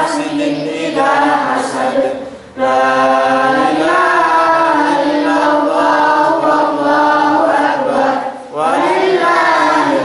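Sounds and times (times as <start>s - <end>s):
boy chanting melodically: 0.0s - 10.0s.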